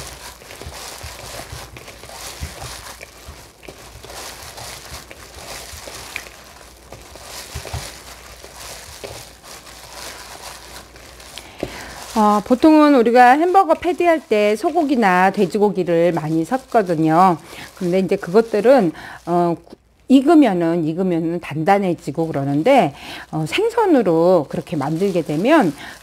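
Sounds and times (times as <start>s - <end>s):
wet mixture squishing: 0.0s - 19.8s, 21.9s - 26.0s
plastic glove crinkling: 0.0s - 26.0s.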